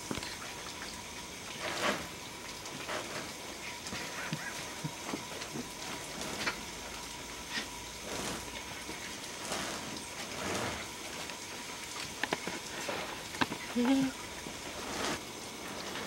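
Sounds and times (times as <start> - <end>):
vine ball rustling and clicking: 0.0 - 16.0.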